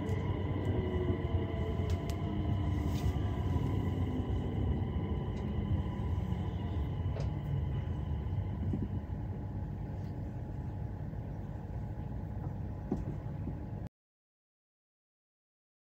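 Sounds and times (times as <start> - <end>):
faint steady whine: 0.0 - 13.9
train running gear rumble: 0.0 - 13.9.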